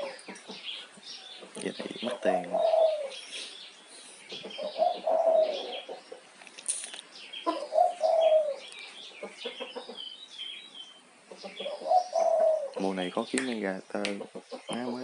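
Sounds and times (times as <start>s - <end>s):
bird calls: 0.0s - 15.0s.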